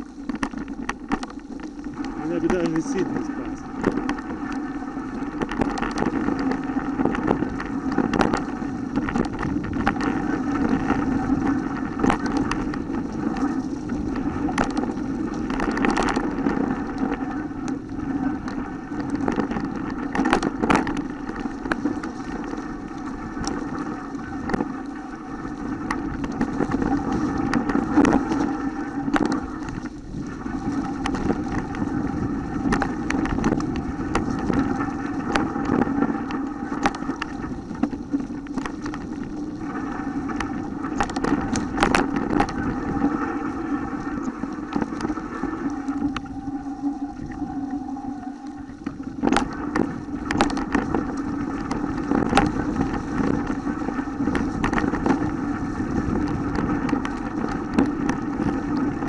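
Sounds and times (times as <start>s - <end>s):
mountain bike rattling on trail: 0.0s - 46.9s, 49.0s - 59.0s.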